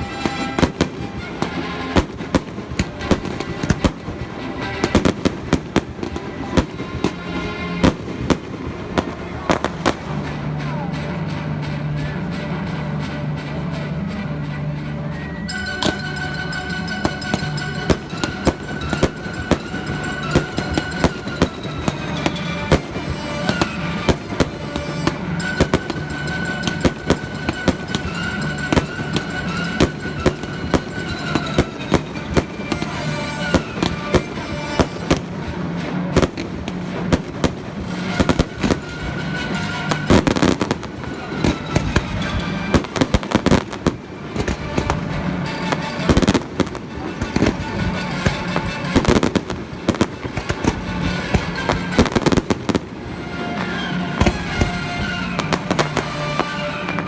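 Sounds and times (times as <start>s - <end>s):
fireworks bangs and crackles: 0.0s - 57.0s
music: 0.0s - 57.0s.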